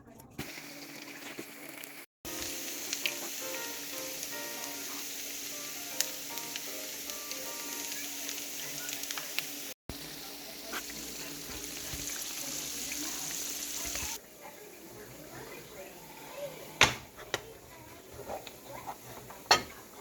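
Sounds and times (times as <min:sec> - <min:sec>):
food sizzling in a pan: 0:00.4 - 0:20.0.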